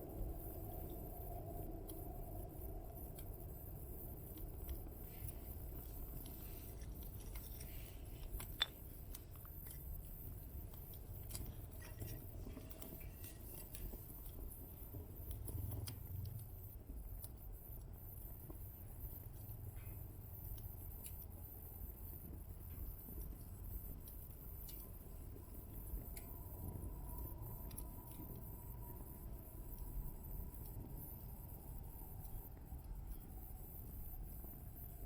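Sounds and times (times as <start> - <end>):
wood fire crackling: 0.0 - 34.8
low steady rumble: 0.0 - 35.0.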